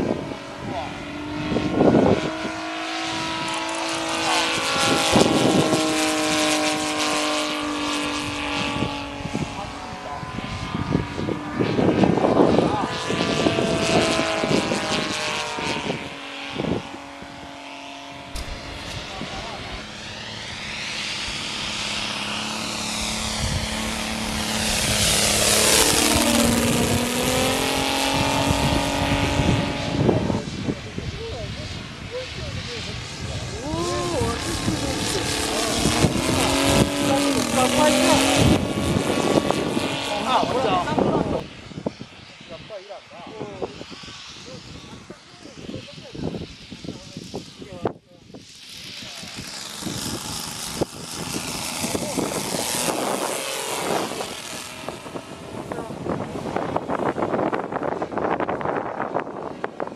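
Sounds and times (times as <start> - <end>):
model airplane engine running: 0.0 - 59.9.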